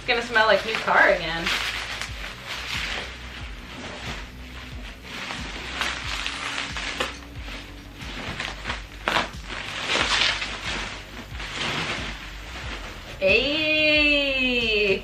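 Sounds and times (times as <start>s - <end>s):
packaging rustling and crinkling: 0.0s - 13.2s.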